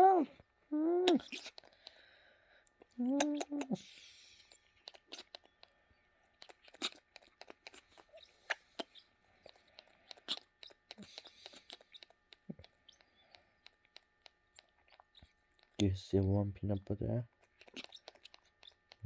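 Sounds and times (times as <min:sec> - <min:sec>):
beak clicks and smacks: 0:01.0 - 0:16.0, 0:16.8 - 0:19.0.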